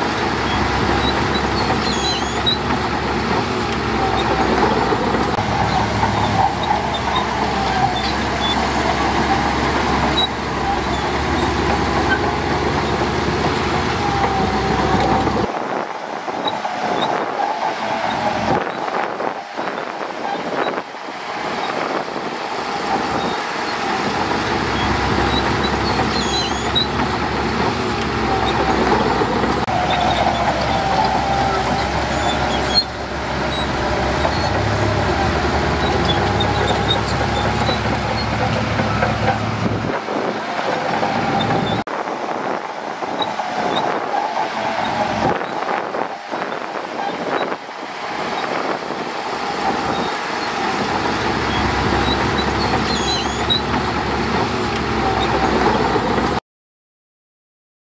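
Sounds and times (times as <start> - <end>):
bulldozer diesel engine under load: 0.0 - 56.4.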